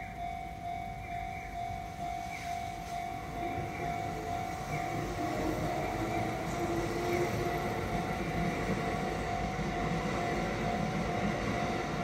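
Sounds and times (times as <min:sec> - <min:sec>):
crossing warning bell ringing: 0:00.0 - 0:12.0
train wheels rumbling on rails: 0:00.0 - 0:12.0.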